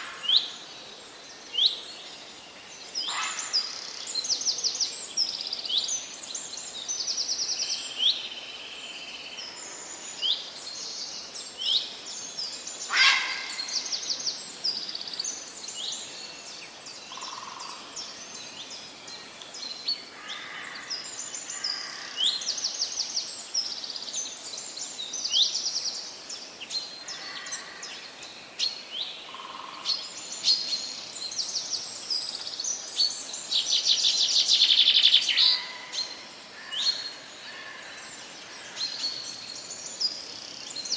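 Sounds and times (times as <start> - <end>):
birds chirping and trilling: 0.0 - 8.5, 9.2 - 40.9.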